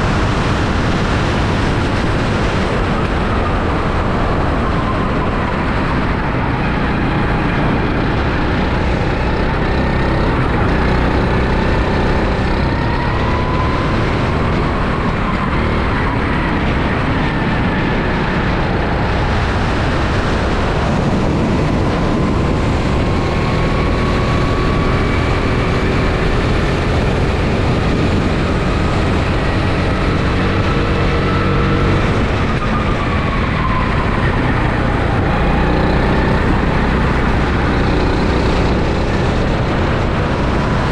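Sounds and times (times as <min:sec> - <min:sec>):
go-kart engine: 0:00.0 - 0:40.9
wind and road noise on microphone: 0:00.0 - 0:40.9.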